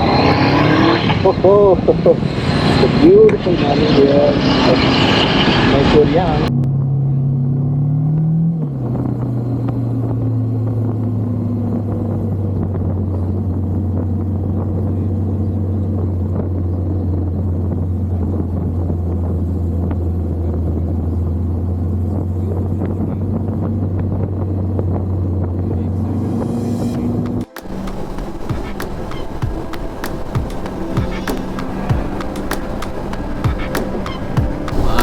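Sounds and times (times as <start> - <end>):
motorcycle engine running: 6.5 - 35.0.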